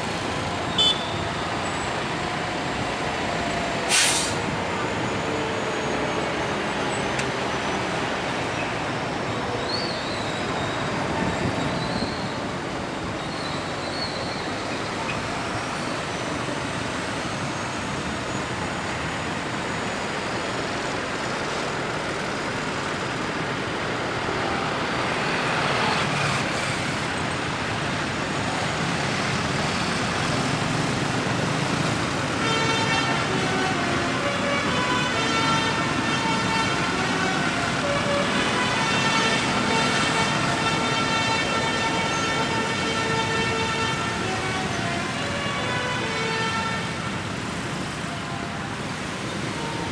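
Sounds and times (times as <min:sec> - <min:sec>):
road traffic noise: 0:00.0 - 0:49.9.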